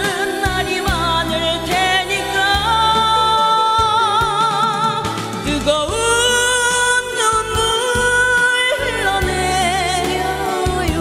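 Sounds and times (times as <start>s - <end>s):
woman singing into a microphone: 0.0s - 11.0s.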